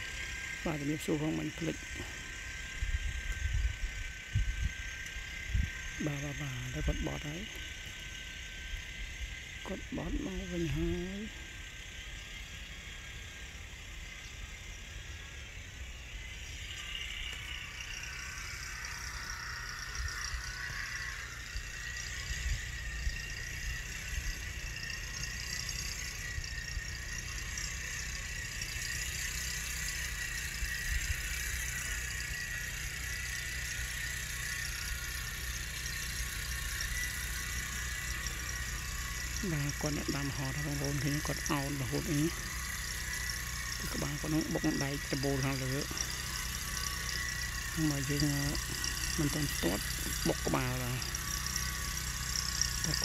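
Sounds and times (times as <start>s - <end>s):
roller machine engine running: 0.0s - 53.0s.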